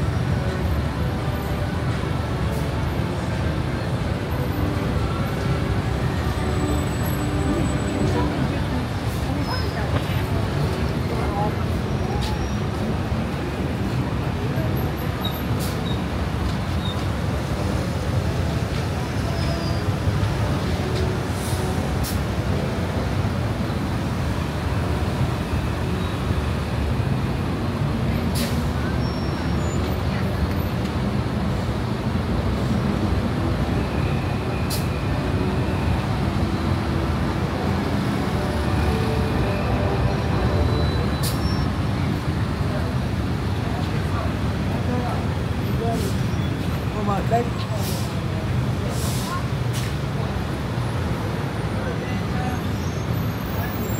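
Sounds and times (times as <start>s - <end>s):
faint crowd voices: 0.0s - 53.9s
street traffic rumble: 0.0s - 53.9s.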